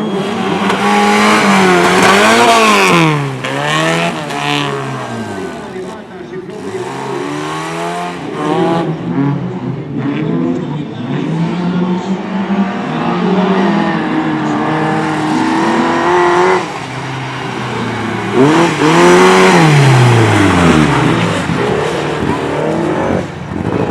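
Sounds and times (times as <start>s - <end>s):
race car engines revving: 0.0s - 23.9s
race car passing close: 0.0s - 23.9s.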